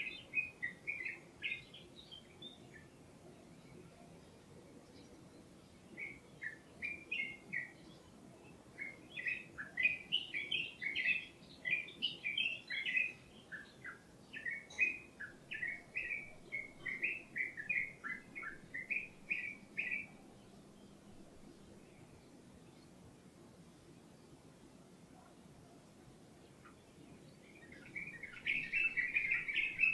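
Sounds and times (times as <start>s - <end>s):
songbird chirping: 0.0s - 29.9s.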